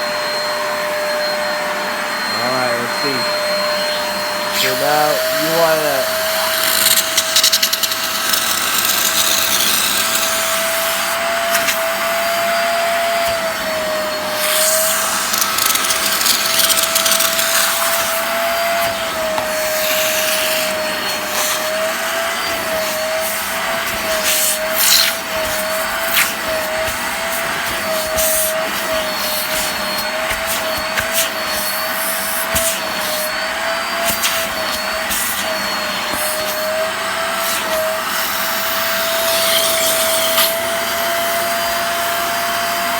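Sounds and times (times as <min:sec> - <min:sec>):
carpet cleaner motor whine: 0:00.0 - 0:42.9.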